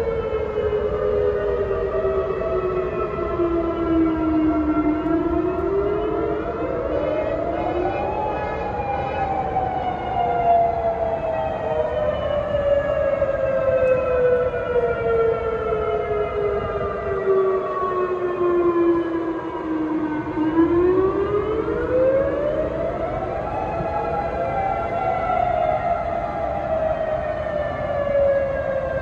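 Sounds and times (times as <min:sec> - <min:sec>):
warning siren wailing: 0:00.0 - 0:29.0.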